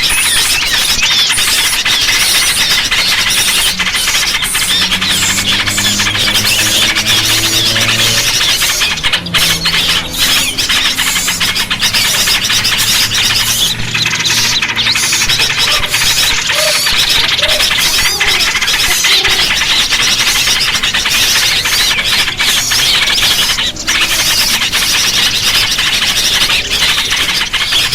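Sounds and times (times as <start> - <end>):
small birds chattering and chirping: 0.0 - 27.9.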